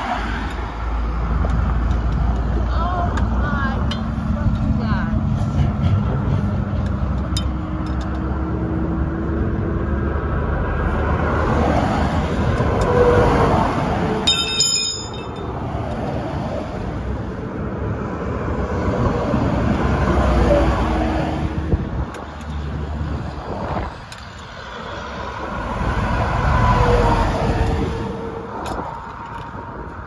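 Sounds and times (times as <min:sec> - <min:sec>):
van road and engine noise: 0:00.0 - 0:30.0.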